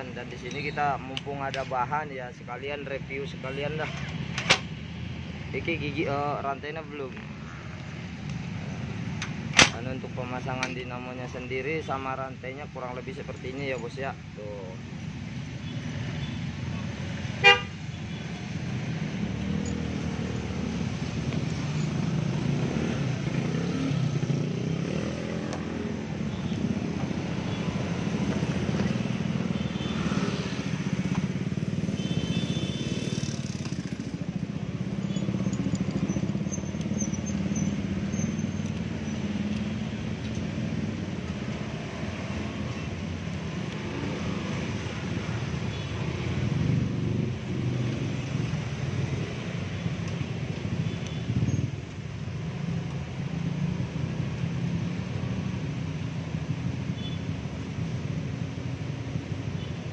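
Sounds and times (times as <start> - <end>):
motorcycle engines: 0.0 - 59.9
road traffic rumble: 0.0 - 59.9.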